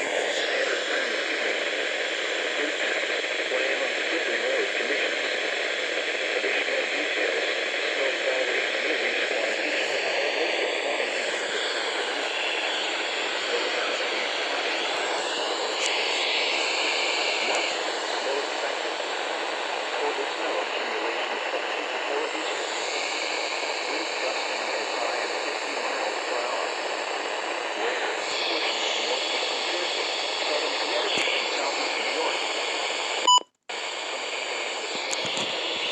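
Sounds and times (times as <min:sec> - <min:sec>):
radio static hiss: 0:00.0 - 0:35.9.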